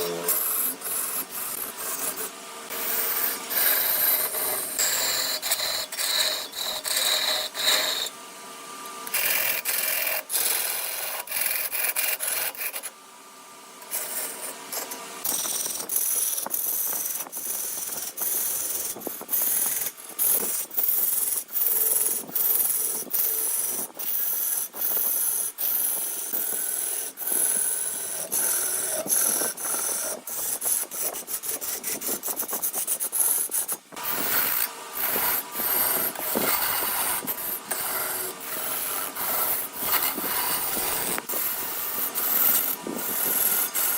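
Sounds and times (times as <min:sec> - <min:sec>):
lathe tool cutting wood: 0:00.0 - 0:13.0, 0:13.7 - 0:43.9.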